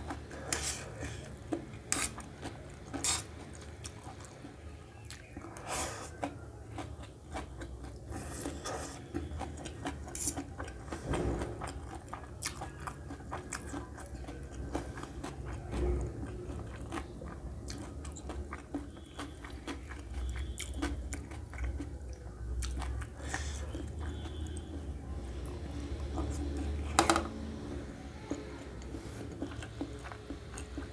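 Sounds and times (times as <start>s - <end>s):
person chewing noodles: 0.0s - 30.9s.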